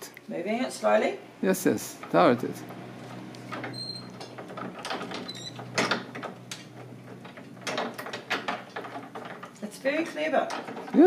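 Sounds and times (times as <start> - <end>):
washing machine gears clicking: 1.8 - 11.0.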